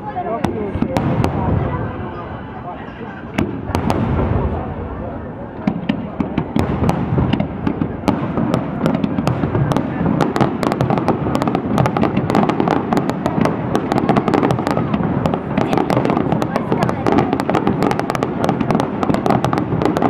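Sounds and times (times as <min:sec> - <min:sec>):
crackling firework stars: 0:00.0 - 0:20.0.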